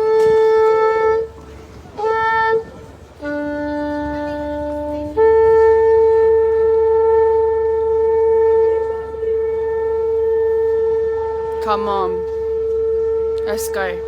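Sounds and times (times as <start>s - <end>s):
shofar blast: 0.0s - 1.4s, 2.0s - 13.5s.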